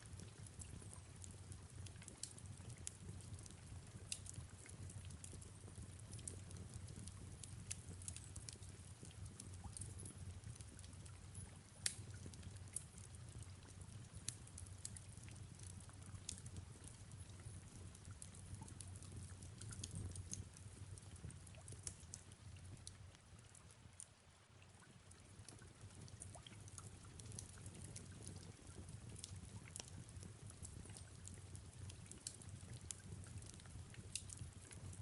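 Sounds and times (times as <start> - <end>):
soft rain: 0.0 - 35.0
fireplace crackling: 0.2 - 35.0.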